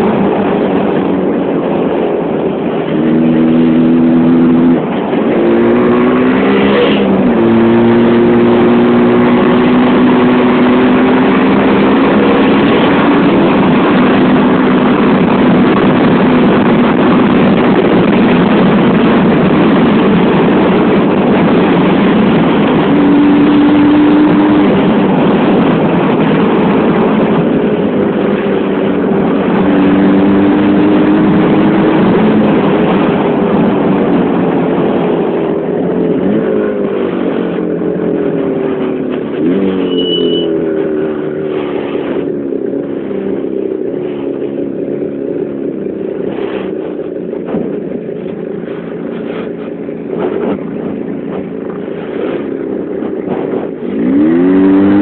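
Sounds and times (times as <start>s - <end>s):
motorcycle engine running: 0.0s - 55.0s
wind on microphone: 0.0s - 55.0s.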